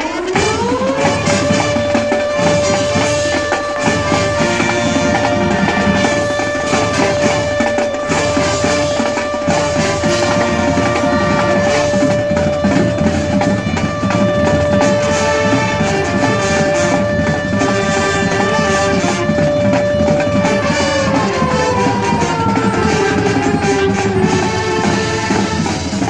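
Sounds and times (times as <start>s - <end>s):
goal song with heavy drums: 0.0s - 26.0s
ice hockey goal horn: 0.0s - 26.0s.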